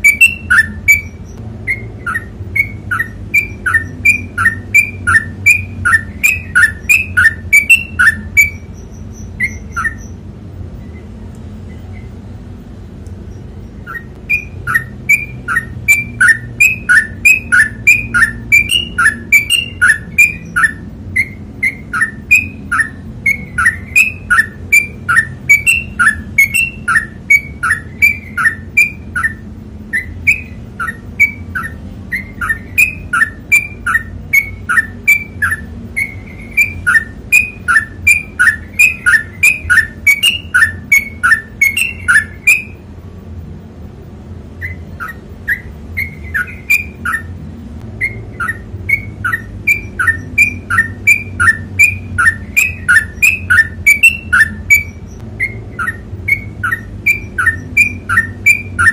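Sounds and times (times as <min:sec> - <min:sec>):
bird singing whistled notes: 0:00.0 - 0:12.2, 0:13.2 - 0:42.9, 0:44.5 - 0:47.4, 0:48.0 - 0:58.9.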